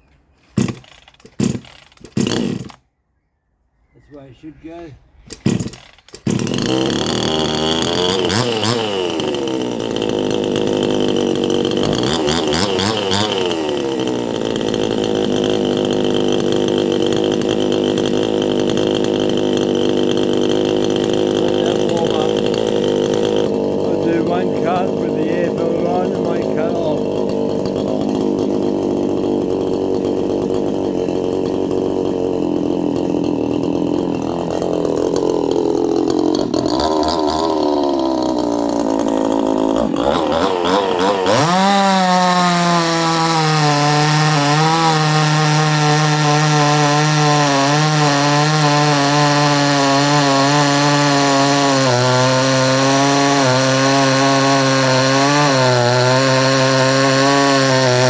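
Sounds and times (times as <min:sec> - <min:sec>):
chainsaw cutting log: 0:00.4 - 0:02.8, 0:05.2 - 0:58.0
chainsaw idling and revving: 0:00.6 - 0:02.8, 0:05.3 - 0:58.0.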